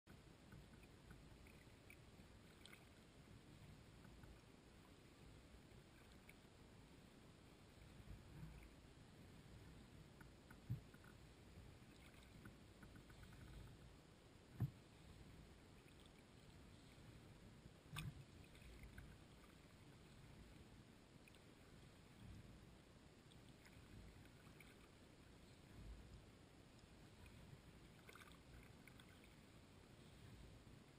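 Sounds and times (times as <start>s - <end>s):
water lapping around kayak: 0.1s - 30.9s.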